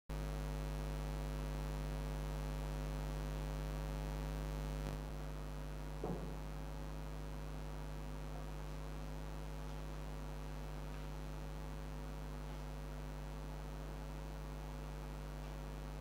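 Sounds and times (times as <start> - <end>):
electrical mains hum: 0.1 - 16.0.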